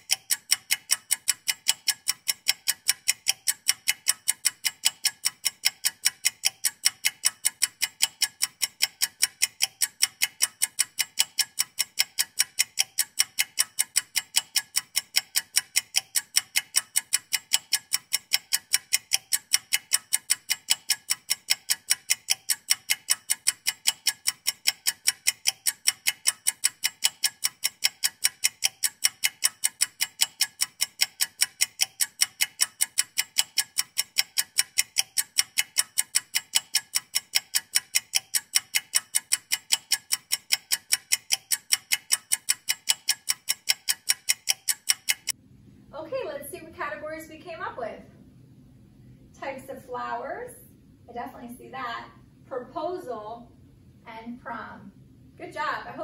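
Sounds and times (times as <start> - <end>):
clock ticking: 0.0 - 45.4, 49.4 - 53.3.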